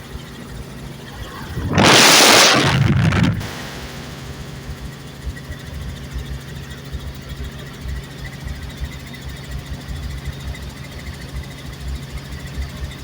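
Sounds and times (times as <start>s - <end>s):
helicopter engine and rotor drone: 0.0s - 1.9s, 3.4s - 13.0s.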